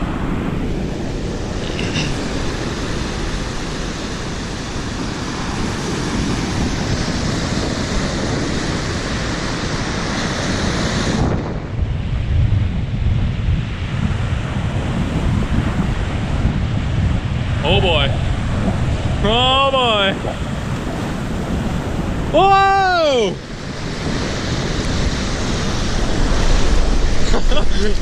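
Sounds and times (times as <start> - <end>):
waves breaking on sand: 0.0 - 28.0
wind buffeting microphone: 0.0 - 28.0.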